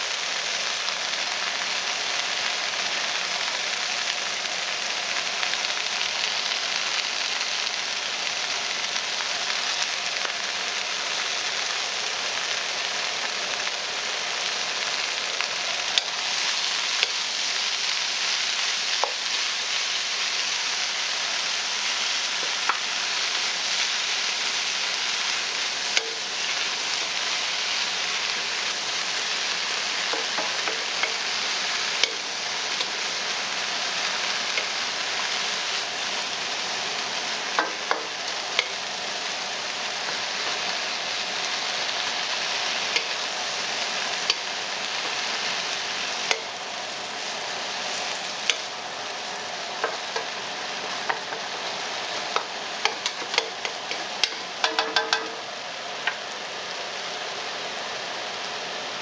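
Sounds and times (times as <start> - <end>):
vegetables sizzling in a skillet: 0.0 - 59.0.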